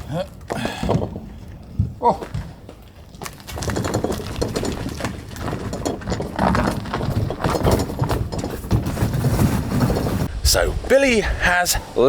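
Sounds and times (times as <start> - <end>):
clattering knocks and rattles: 0.4 - 10.3.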